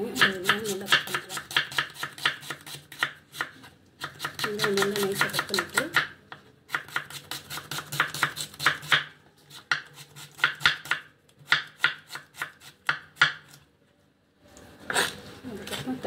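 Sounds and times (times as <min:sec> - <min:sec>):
knife chopping on cutting board: 0:00.1 - 0:13.6.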